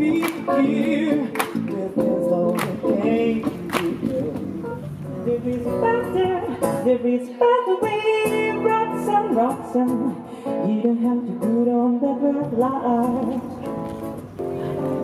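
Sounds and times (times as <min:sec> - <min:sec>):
woman singing: 0:00.0 - 0:04.5, 0:05.1 - 0:13.8.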